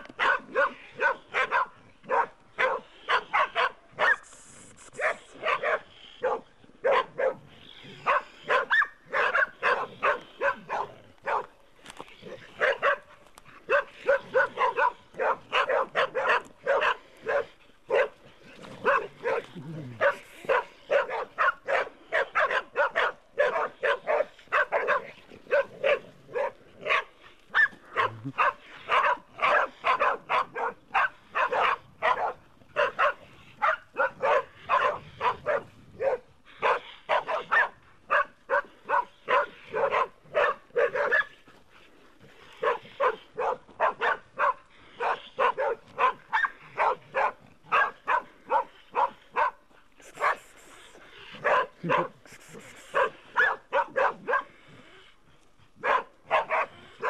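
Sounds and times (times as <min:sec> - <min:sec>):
dogs barking rapidly: 0:00.0 - 0:04.3, 0:05.0 - 0:11.6, 0:12.2 - 0:54.7, 0:55.8 - 0:57.0.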